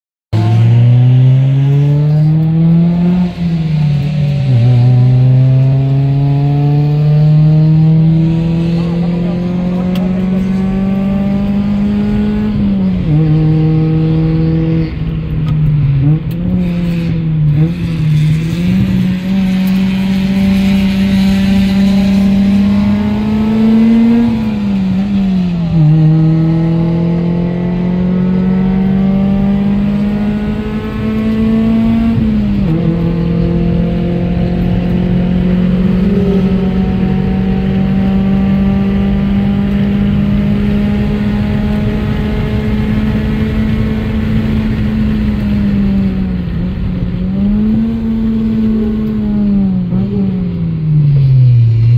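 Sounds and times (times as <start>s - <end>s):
car engine accelerating: 0.3s - 51.9s.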